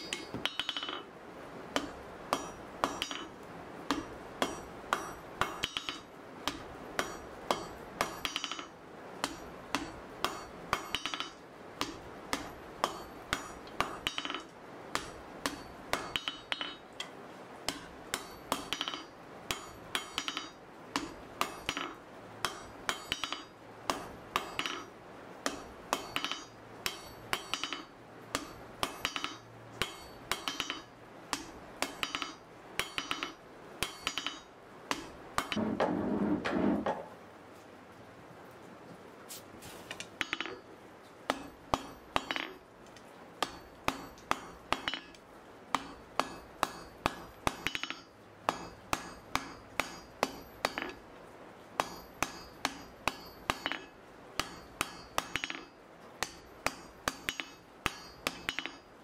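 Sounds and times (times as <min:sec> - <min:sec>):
hammer striking hot steel on anvil: 0:00.0 - 0:01.1, 0:01.7 - 0:36.0, 0:40.2 - 0:40.7, 0:41.3 - 0:42.7, 0:43.4 - 0:51.0, 0:51.8 - 0:59.0.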